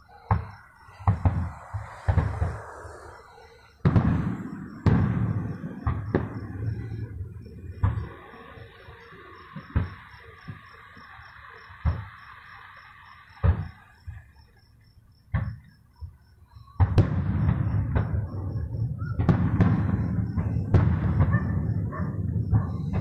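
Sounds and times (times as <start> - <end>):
continuous rumble of fireworks: 0.0 - 23.0
fireworks exploding: 0.0 - 23.0.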